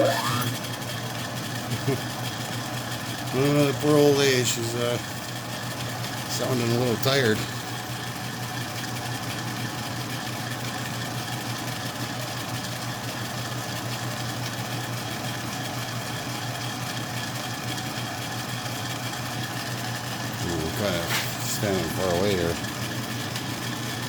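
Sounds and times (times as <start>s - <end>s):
metal lathe running: 0.0s - 24.0s.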